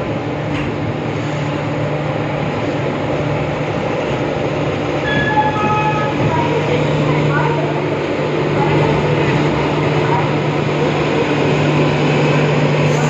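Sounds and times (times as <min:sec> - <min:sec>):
train rumble with low hum: 0:00.0 - 0:13.0.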